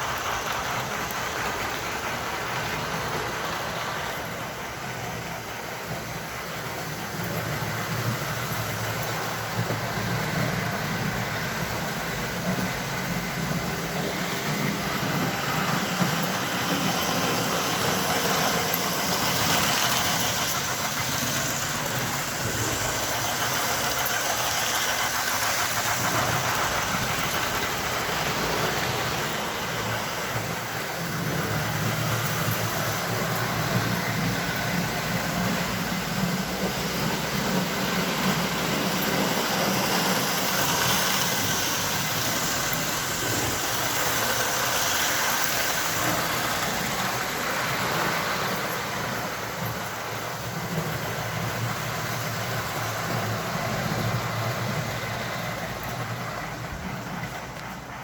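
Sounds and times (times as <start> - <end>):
model train motor running: 0.0 - 58.0
wheels rolling on rails: 0.0 - 58.0.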